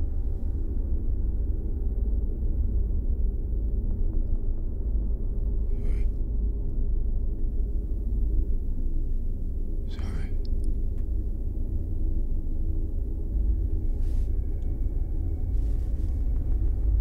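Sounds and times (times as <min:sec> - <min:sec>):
low rumbling drone: 0:00.0 - 0:17.0.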